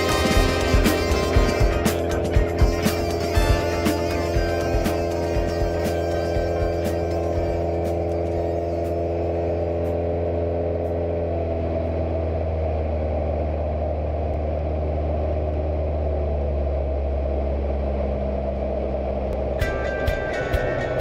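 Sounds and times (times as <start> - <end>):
airplane propeller engine drone: 0.0 - 21.0.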